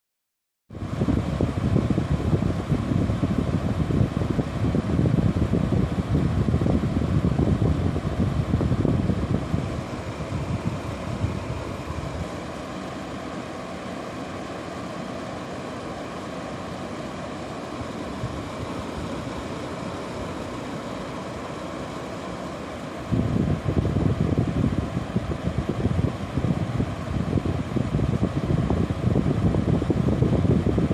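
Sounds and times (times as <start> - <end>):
air conditioner fan hiss: 0.7 - 30.9.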